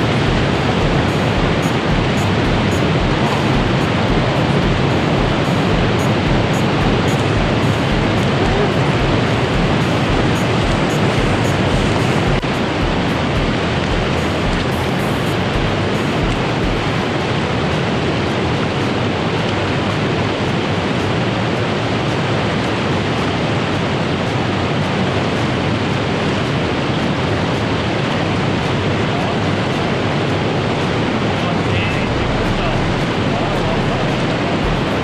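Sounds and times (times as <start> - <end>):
river water rushing over rapids: 0.0 - 35.0.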